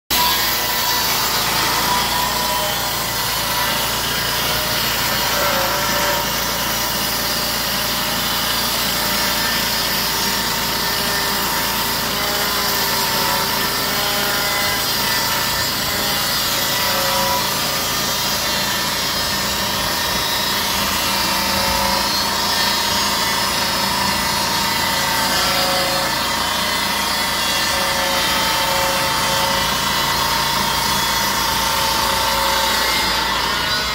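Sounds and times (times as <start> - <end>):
circular blade sawing wood: 0.1 - 33.9
sawmill engine running: 0.1 - 33.9.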